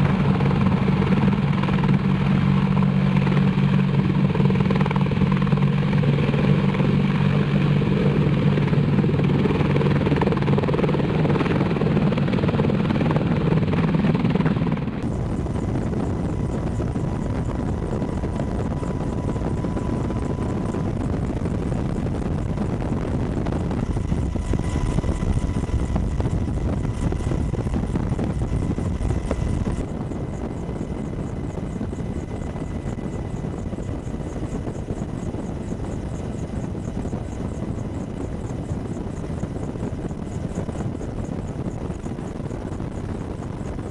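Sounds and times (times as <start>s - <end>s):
helicopter rotor and engine: 0.0s - 43.9s.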